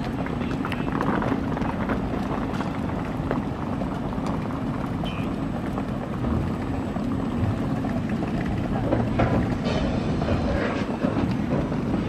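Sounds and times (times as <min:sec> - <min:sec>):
rolling suitcases: 0:00.0 - 0:12.0
train humming: 0:00.0 - 0:12.0.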